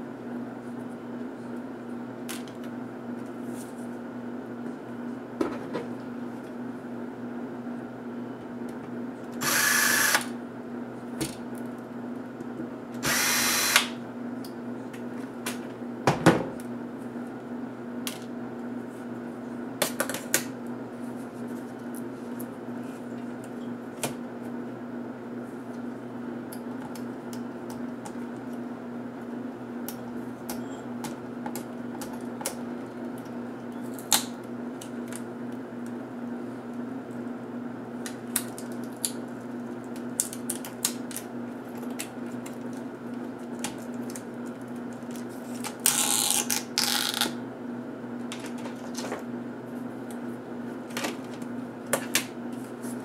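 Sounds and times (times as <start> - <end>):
steady electrical hum: 0.0 - 53.0.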